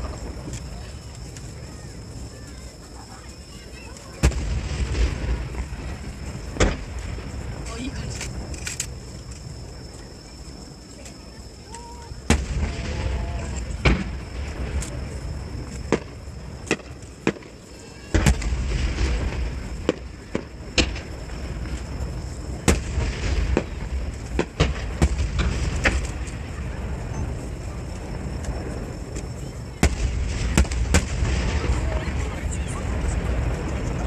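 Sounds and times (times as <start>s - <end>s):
fireworks bangs: 0.0s - 9.8s, 11.0s - 34.0s
low rumble of booms: 0.0s - 34.0s.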